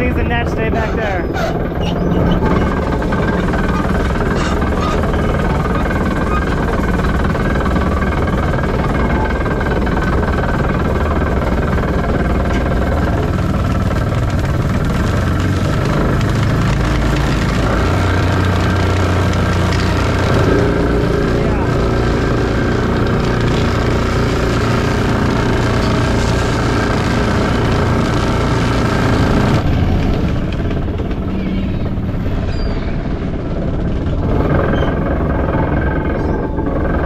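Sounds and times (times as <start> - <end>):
diesel engine droning and knocking: 0.0 - 37.0.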